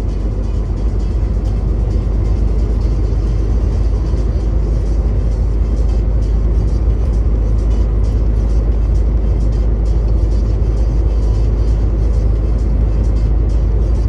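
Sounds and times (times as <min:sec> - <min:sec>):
truck engine rumble: 0:00.0 - 0:14.0
tyres on road: 0:00.0 - 0:14.0.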